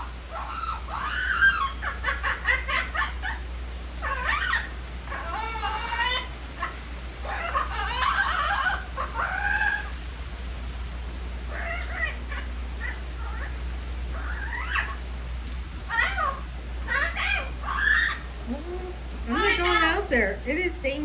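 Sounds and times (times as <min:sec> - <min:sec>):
parrot squawking: 0:00.0 - 0:10.1, 0:11.5 - 0:15.1, 0:15.8 - 0:20.6.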